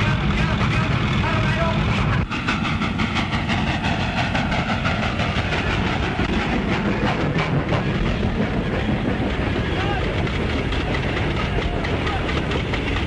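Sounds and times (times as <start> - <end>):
steam locomotive clattering: 0.0 - 13.0.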